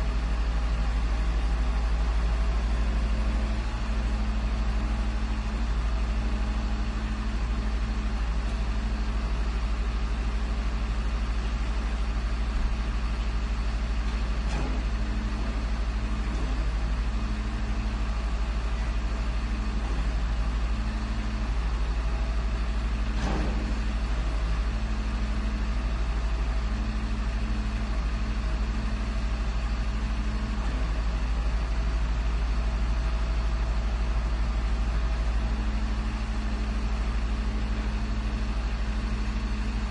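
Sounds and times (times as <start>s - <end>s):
garbage truck engine idling: 0.0s - 39.9s.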